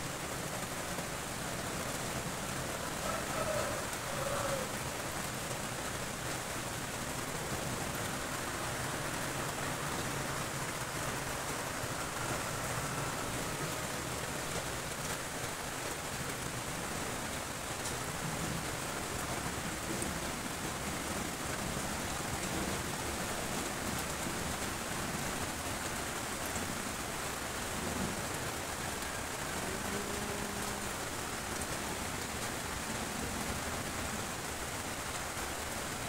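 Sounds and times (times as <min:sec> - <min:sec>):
rain on metal roofs: 0:00.0 - 0:36.0.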